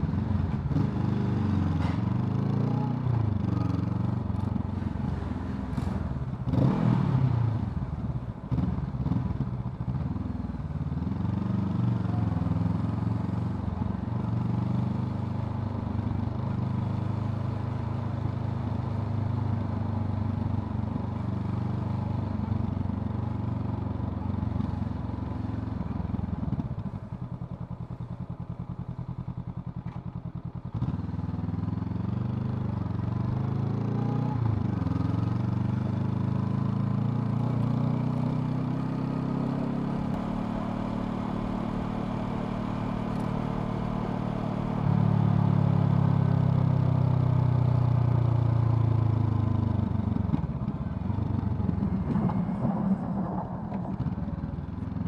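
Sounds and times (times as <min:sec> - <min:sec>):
motorcycle engine running: 0:02.8 - 0:55.0.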